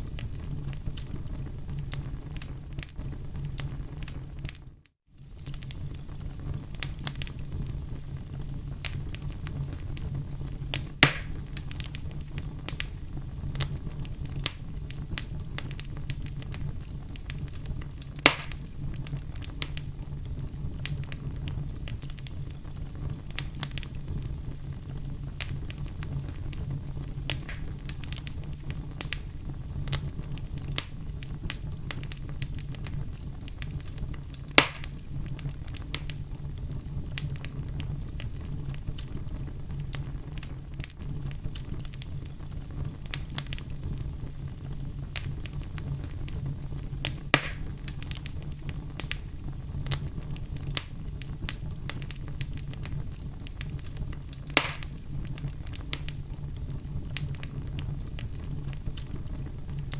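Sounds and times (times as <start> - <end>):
fire crackling: 0.0 - 59.9
fire pops: 0.0 - 59.9.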